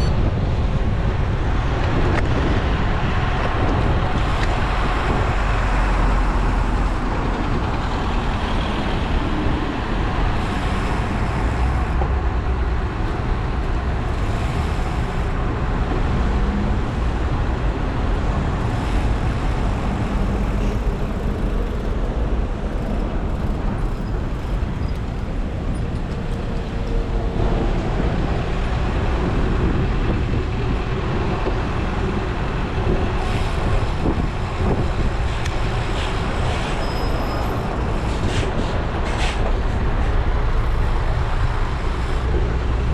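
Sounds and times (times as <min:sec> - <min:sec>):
deep rumble: 0:00.0 - 0:36.3
road noise: 0:00.0 - 0:42.9
wind noise: 0:00.0 - 0:42.9.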